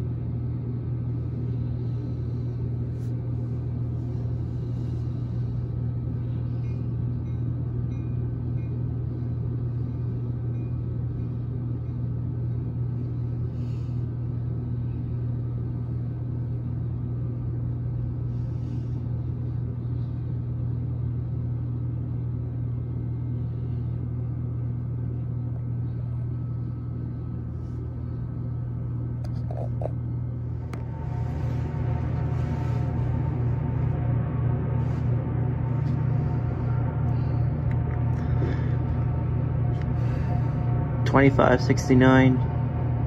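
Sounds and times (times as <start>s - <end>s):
constant hum: 0.0s - 43.0s
low mechanical rumble: 0.0s - 43.0s.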